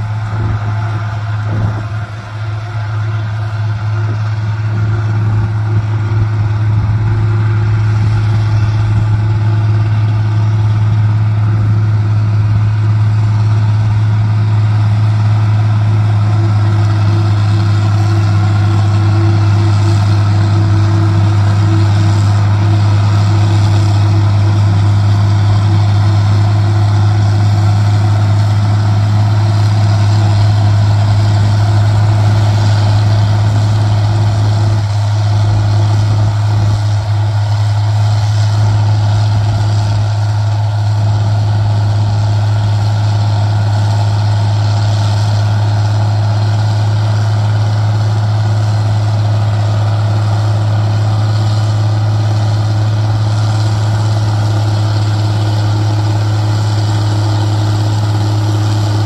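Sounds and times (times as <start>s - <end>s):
forage harvester chopping corn: 0.0s - 59.0s
tractor diesel engine droning: 0.0s - 59.0s.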